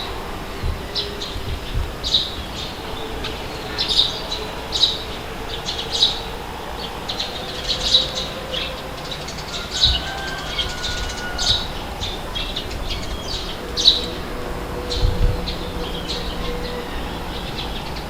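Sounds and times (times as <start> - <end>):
birds chirping: 0.0 - 18.0
wind rushing: 0.0 - 18.0.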